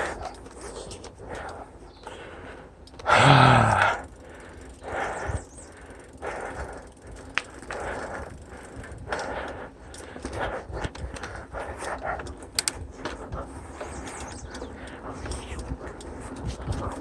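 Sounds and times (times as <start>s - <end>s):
person breathing hard: 0.0s - 13.8s.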